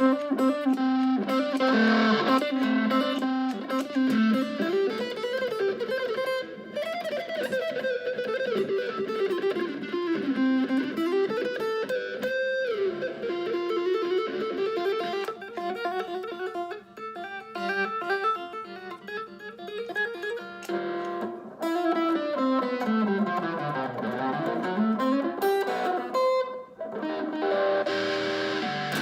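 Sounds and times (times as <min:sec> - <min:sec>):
electric guitar lead melody: 0:00.0 - 0:29.0.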